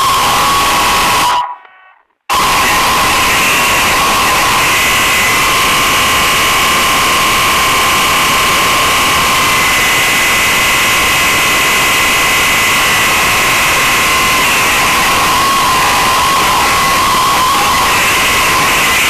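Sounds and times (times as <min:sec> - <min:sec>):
jet engines running: 0:02.4 - 0:19.0.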